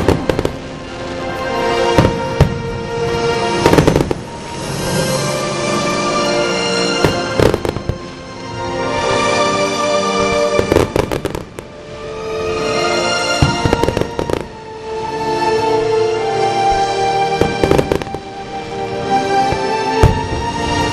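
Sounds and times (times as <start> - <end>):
fireworks bangs and crackles: 0.0 - 8.7, 10.1 - 12.0, 12.6 - 14.7, 16.7 - 20.9
music playing: 0.0 - 20.9.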